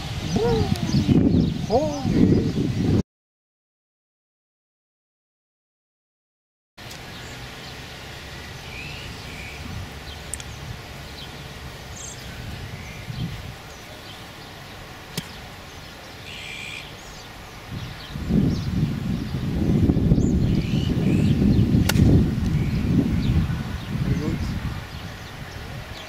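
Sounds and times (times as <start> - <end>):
wind gust on microphone: 0.0 - 3.0, 7.6 - 26.0.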